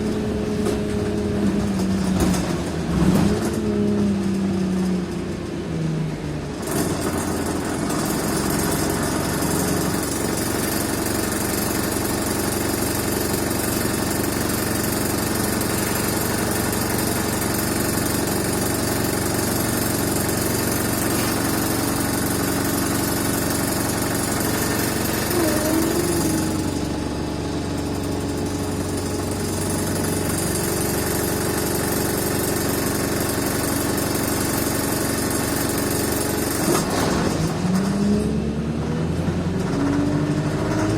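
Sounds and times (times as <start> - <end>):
bus engine idling: 0.0 - 40.9.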